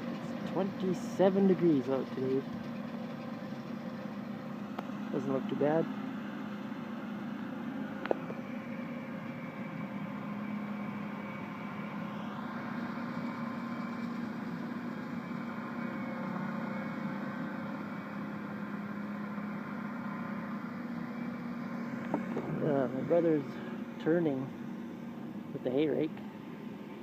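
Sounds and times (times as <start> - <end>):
engine running steadily: 0.0 - 27.0.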